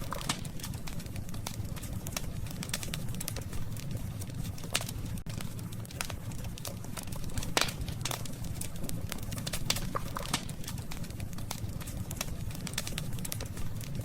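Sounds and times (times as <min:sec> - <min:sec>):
campfire crackling and popping: 0:00.0 - 0:14.0
low fire rumble: 0:00.0 - 0:14.0.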